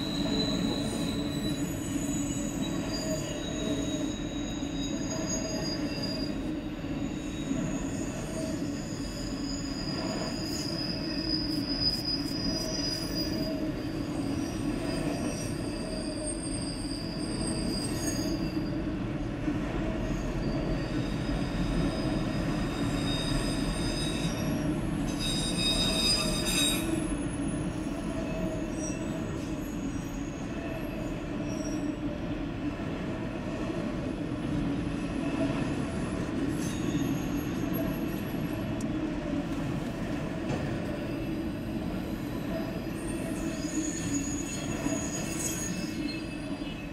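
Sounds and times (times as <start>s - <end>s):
high-pitched wheel squeal: 0.0s - 18.8s, 20.1s - 32.0s, 36.2s - 38.6s, 42.1s - 46.9s.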